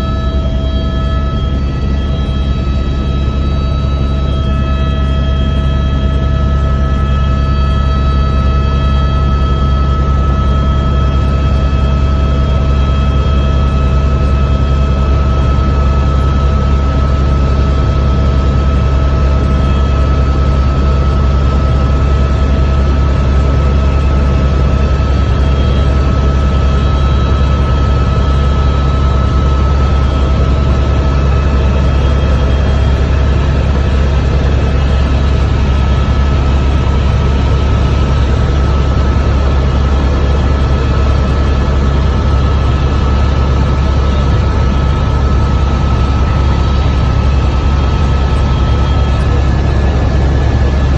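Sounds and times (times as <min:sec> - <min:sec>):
helicopter rotor drone: 0:00.0 - 0:50.9
helicopter whine: 0:00.0 - 0:50.9.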